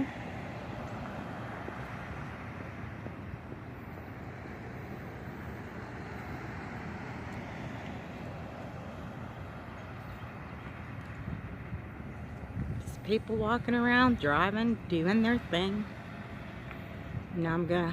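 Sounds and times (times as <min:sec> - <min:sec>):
cars driving by: 0:00.0 - 0:17.9.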